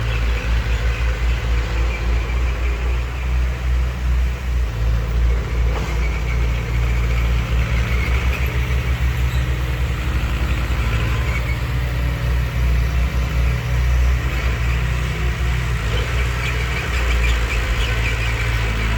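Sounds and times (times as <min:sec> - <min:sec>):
heavy diesel engines rumbling: 0:00.0 - 0:18.9.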